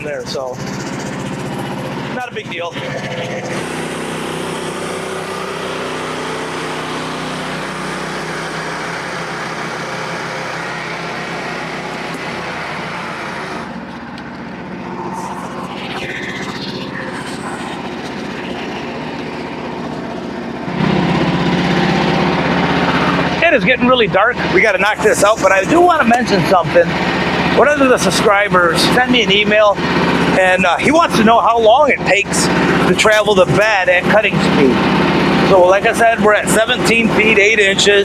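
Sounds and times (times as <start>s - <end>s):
sawmill gas engine running: 0.0s - 38.0s.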